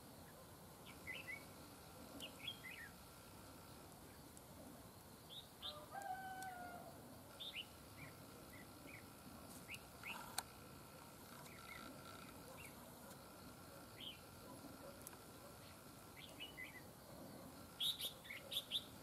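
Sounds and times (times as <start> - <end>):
birds chirping: 0.2 - 4.4, 7.3 - 19.0.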